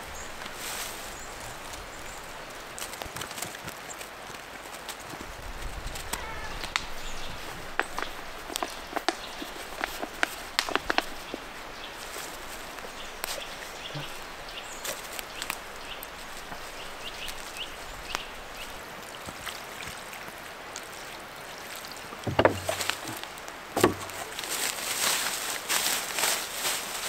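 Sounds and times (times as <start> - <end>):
earth scraping and rustling: 0.0 - 19.5, 22.2 - 27.0.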